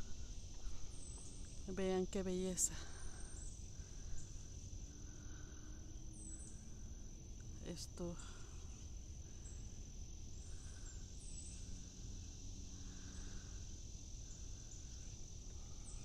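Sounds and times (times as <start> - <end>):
insects trilling: 0.0 - 16.0
low insect buzz: 0.0 - 16.0.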